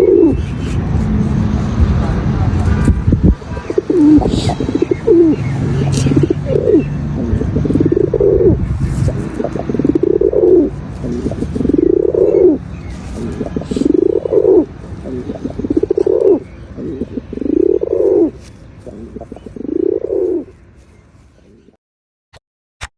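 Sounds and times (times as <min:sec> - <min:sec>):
pigeon cooing: 0:00.0 - 0:21.8.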